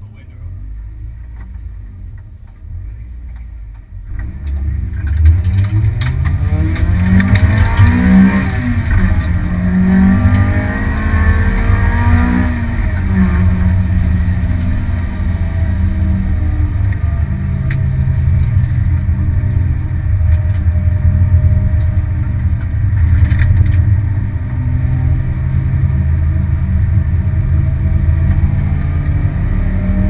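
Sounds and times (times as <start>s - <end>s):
car engine revving through gears: 4.0s - 30.0s.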